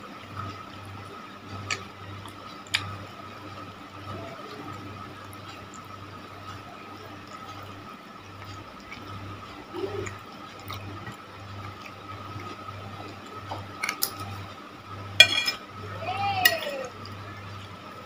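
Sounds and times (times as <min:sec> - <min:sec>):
faint high hum: 0:00.0 - 0:18.0.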